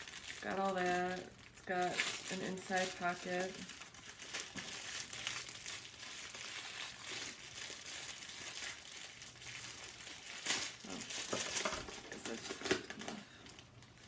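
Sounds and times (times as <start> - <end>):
packing material crinkling: 0.0 - 14.0.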